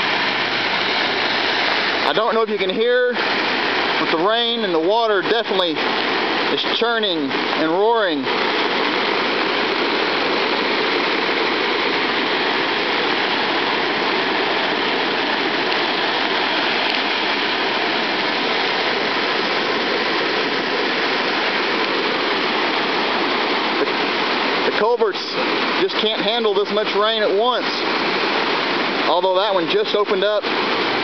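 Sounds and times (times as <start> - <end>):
floodwater rushing in ditch: 0.0 - 31.0
rain: 0.0 - 31.0.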